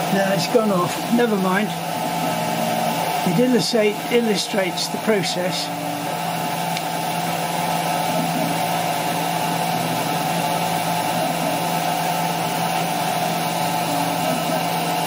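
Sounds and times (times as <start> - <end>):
router spindle cutting acrylic: 0.0 - 15.0.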